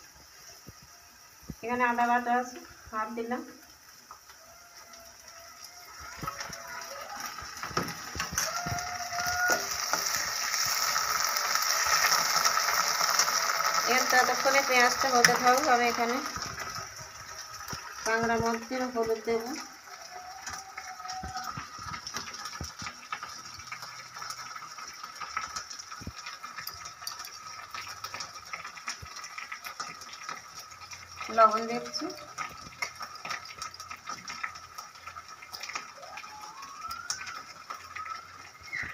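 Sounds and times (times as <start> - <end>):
frying sizzle: 0.0 - 38.9.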